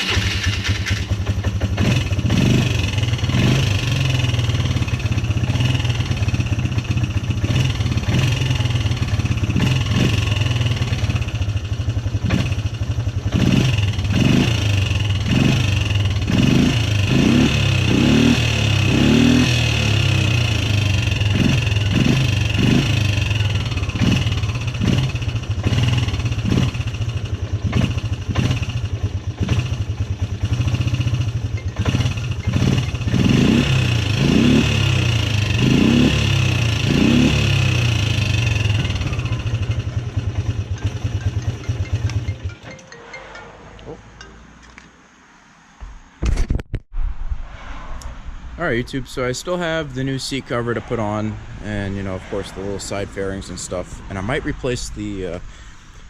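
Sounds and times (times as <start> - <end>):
engine idling and revving: 0.0 - 42.7, 49.2 - 56.0.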